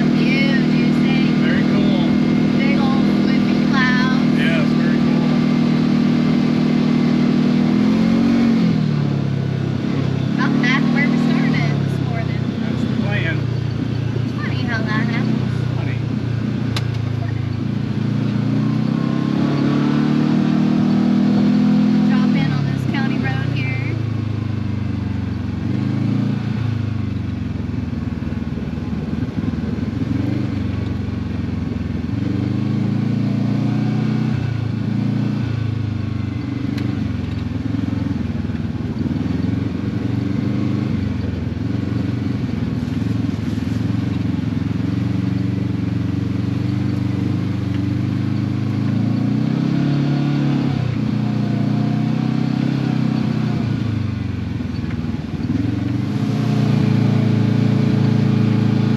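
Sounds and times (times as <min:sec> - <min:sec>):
utv engine revving under load: 0:00.0 - 0:27.0, 0:29.0 - 0:58.9.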